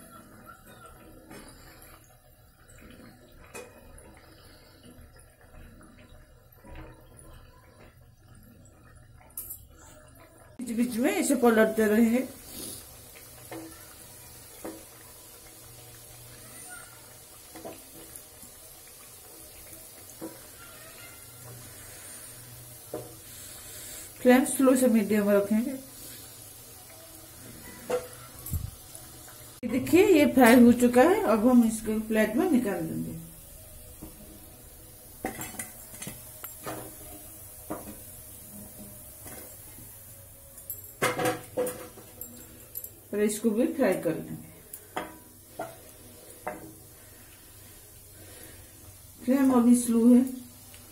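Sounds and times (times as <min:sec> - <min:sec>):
oil sizzling in a pan: 0:00.0 - 0:50.9.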